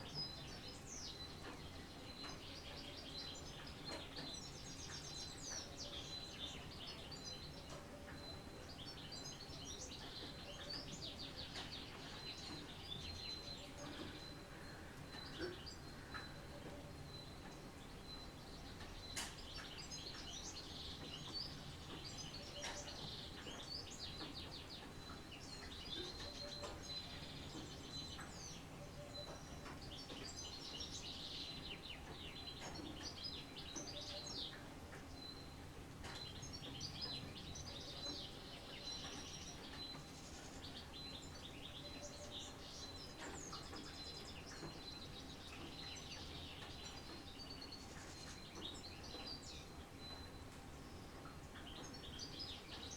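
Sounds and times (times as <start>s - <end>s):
faint background noise: 0.0s - 52.9s
songbirds singing and chirping: 0.0s - 52.9s.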